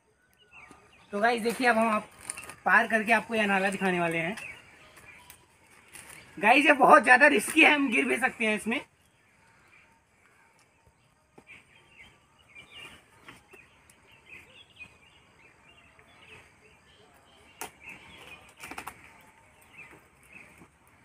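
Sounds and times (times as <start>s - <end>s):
birds chirping: 0.0s - 21.0s
rustling of dry twigs: 0.3s - 16.7s, 17.4s - 21.0s.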